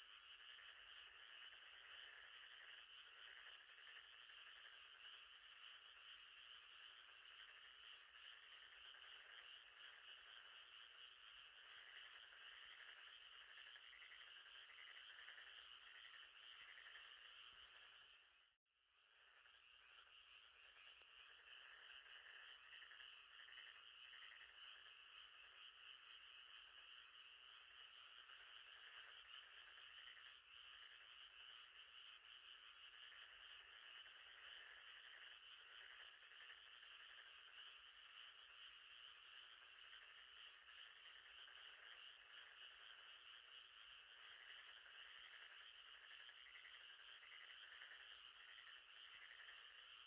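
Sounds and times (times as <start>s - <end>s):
chorus of frogs calling: 0.0s - 18.3s, 19.2s - 50.0s.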